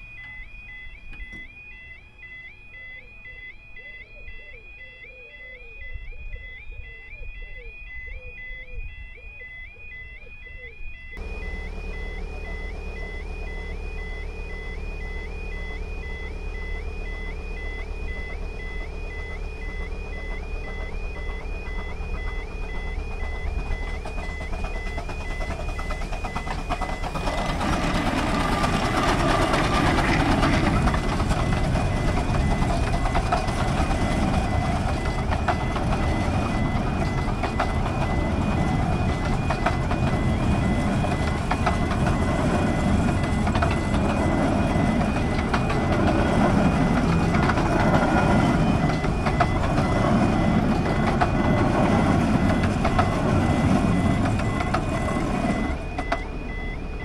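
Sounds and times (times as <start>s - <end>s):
crossing warning alarm two-note tone: 0.0s - 57.0s
miniature train rumbling: 11.2s - 57.0s.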